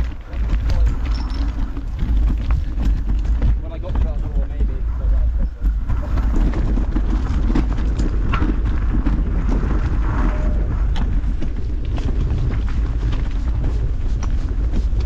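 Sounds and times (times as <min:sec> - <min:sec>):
bike rattles and clicks: 0:00.0 - 0:15.0
tyres rumbling on trail: 0:00.0 - 0:15.0
wind buffeting microphone: 0:00.0 - 0:15.0.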